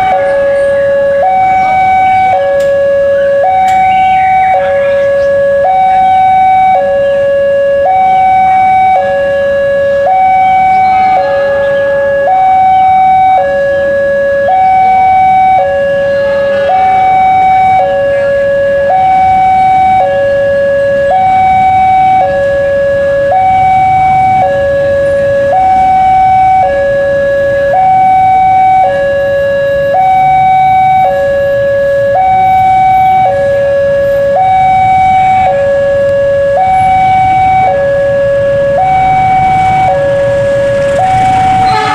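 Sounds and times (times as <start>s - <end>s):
level-crossing two-tone alarm: 0.0s - 41.9s.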